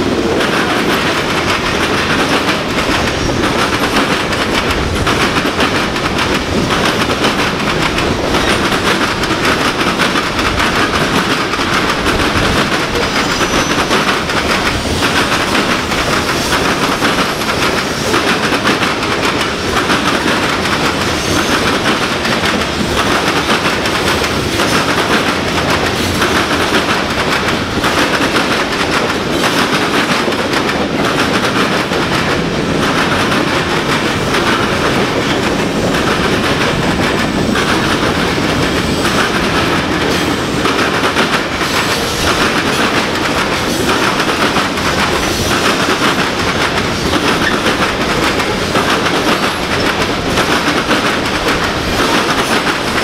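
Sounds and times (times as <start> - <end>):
freight train rolling past: 0.0 - 53.0
steel wheels clattering on rails: 0.0 - 53.0.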